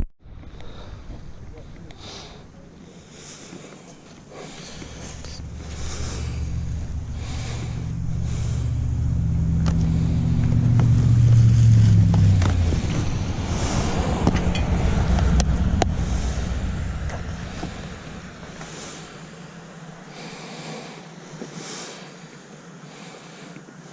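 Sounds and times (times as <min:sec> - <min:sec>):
vehicle engine humming: 0:00.0 - 0:21.5.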